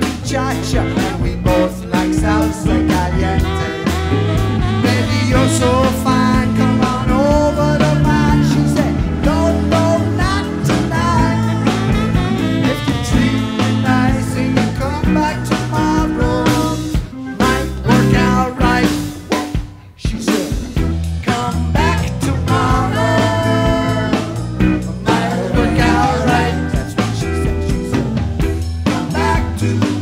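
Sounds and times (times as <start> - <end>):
live band playing blues: 0.0 - 30.0.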